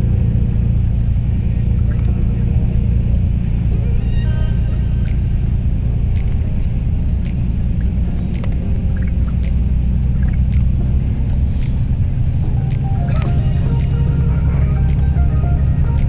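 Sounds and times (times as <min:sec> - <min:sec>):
vehicle rumble from inside: 0:00.0 - 0:16.0.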